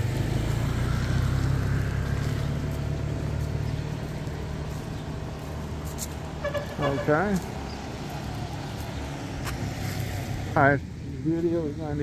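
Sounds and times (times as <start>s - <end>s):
vehicle engine running: 0.0s - 10.8s.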